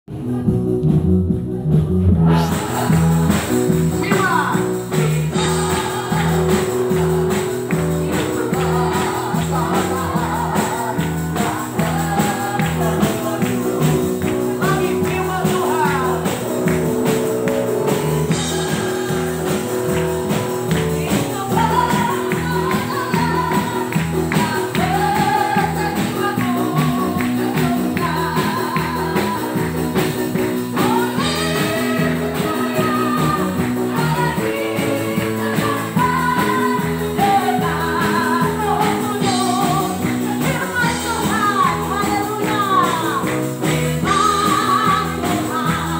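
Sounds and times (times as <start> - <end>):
church band playing: 0.1 - 45.9
group of singers: 0.1 - 45.9.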